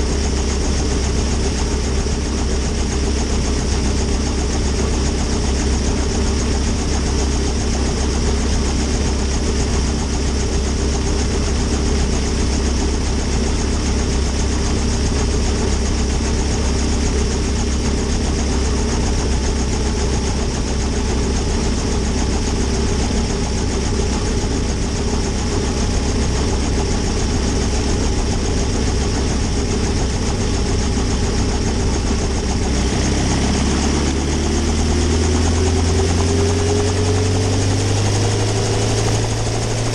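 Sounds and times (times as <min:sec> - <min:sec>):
helicopter engine idling: 0:00.0 - 0:39.9.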